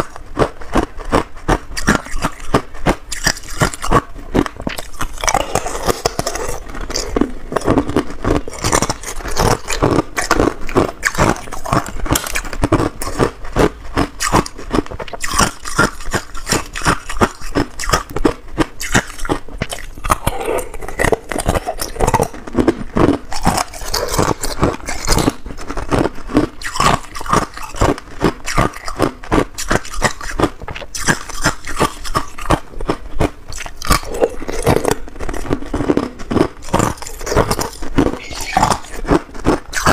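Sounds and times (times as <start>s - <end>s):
ice cubes crunched between teeth: 0.0s - 39.9s.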